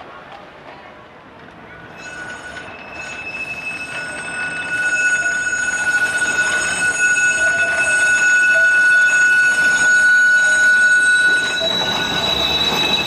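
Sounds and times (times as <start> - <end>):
wheels rumbling on rails: 0.0 - 13.0
tram wheels squealing: 1.6 - 13.0.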